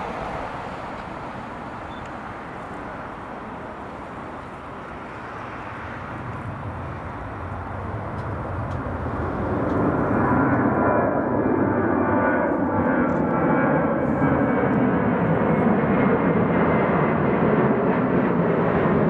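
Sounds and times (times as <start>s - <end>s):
jet airliner taking off: 0.0s - 19.0s.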